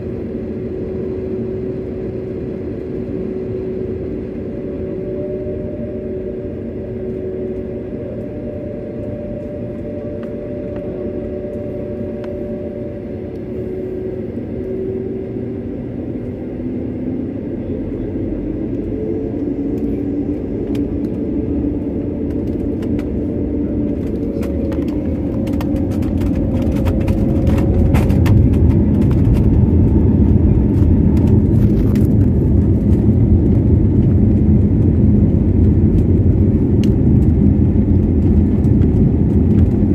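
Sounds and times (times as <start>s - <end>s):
jet engine hum and rumble: 0.0s - 39.9s.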